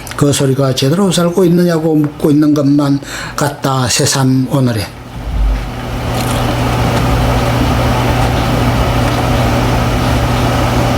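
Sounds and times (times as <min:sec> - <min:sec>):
low mechanical hum with hiss: 0:00.0 - 0:10.9.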